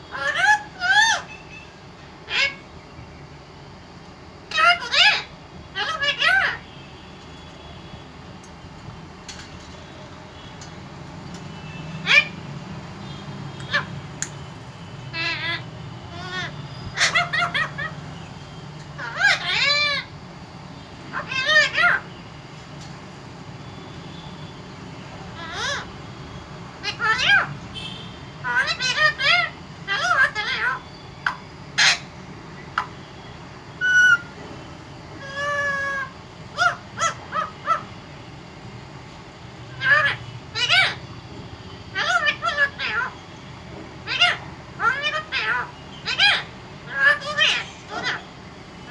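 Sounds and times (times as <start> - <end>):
parrot calling: 0.0 - 2.7, 4.4 - 48.9
low background hum: 0.0 - 48.9.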